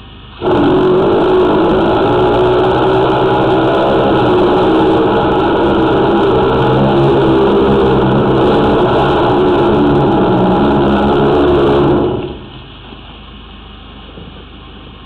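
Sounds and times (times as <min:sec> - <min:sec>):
drain jetter engine and pump: 0:00.0 - 0:15.0.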